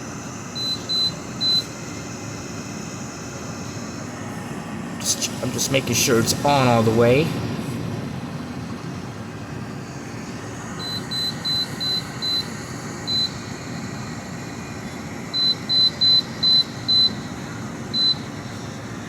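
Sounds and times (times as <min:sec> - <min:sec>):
dehumidifier running: 0:00.0 - 0:19.0.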